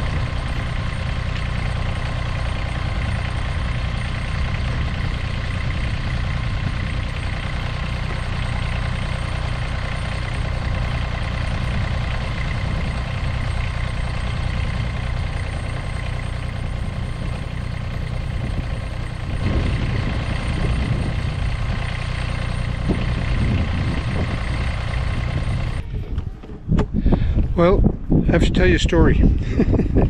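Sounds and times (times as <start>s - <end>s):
tractor diesel engine idling: 0.0s - 27.8s.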